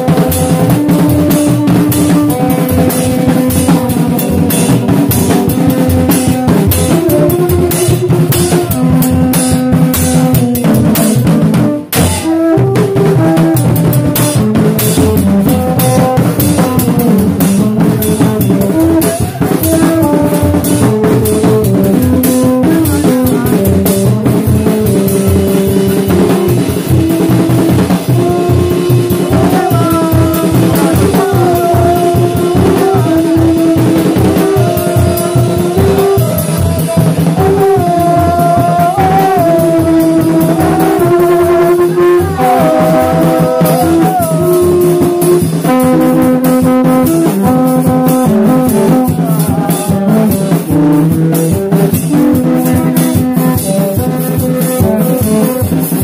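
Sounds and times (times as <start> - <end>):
driving drumming: 0.0 - 56.0
metal trumpets blowing held notes: 0.0 - 56.0.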